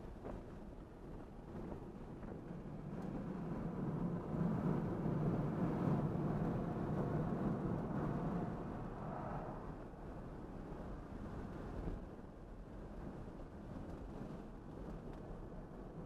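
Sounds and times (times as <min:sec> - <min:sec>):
road and tyre noise: 0:00.0 - 0:16.0.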